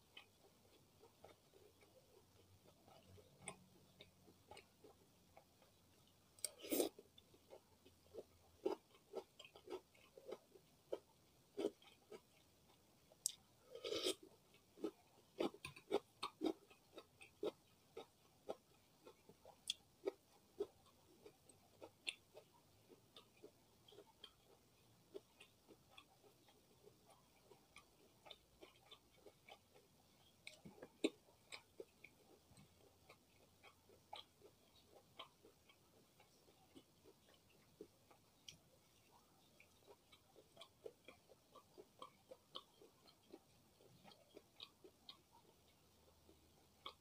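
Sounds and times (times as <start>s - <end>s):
wet chewing clicks: 0.1s - 47.0s.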